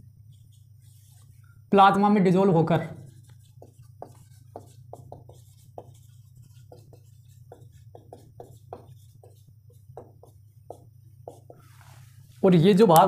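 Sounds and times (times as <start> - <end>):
low steady hum: 0.0 - 13.0
marker writing on whiteboard: 0.2 - 1.5, 2.7 - 12.0.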